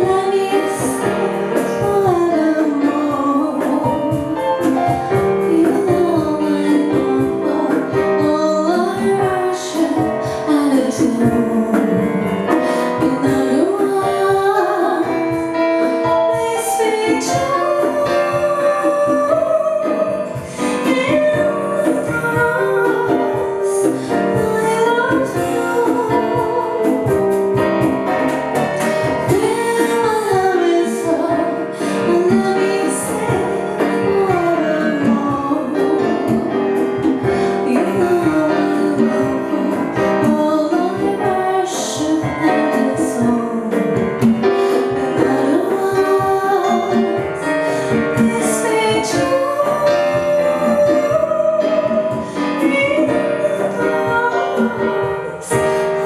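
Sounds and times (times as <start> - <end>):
light percussion: 0.0 - 56.0
piano: 0.0 - 56.0
woman singing: 0.0 - 56.0.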